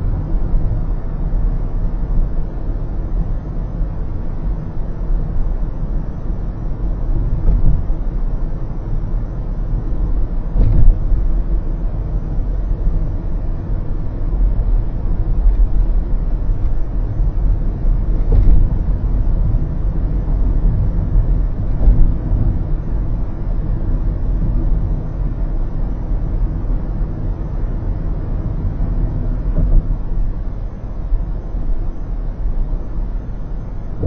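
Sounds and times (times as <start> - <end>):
road and tyre rumble inside car: 0.0 - 34.0.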